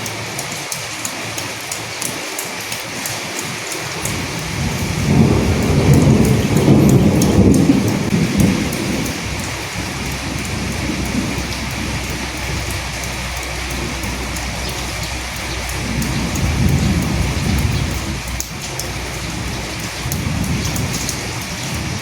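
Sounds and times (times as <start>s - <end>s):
steady rain with dripping: 0.0s - 22.0s
thunder rumbling: 3.9s - 22.0s.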